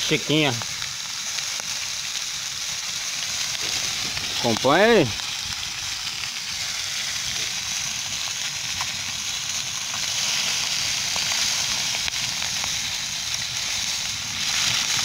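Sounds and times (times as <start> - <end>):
faint crackles: 0.0 - 15.0
fish sizzling in a pan: 0.0 - 15.0.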